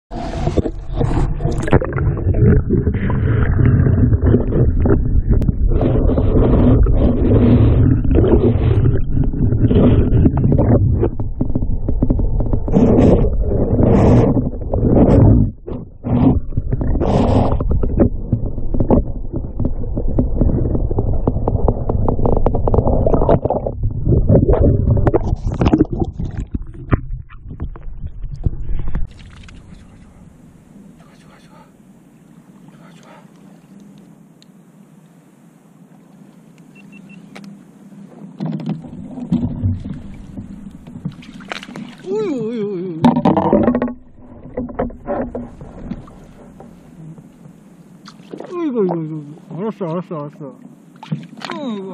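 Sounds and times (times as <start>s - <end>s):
underwater rushing and rumbling: 0.1s - 32.7s, 37.6s - 51.5s.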